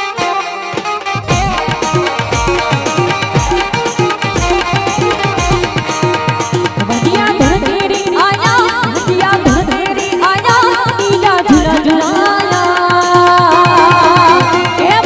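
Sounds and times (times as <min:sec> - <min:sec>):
ornamented melodic lead: 0:01.1 - 0:14.8
fast hand drum rhythm: 0:01.2 - 0:15.0
sustained accompaniment: 0:01.3 - 0:13.8.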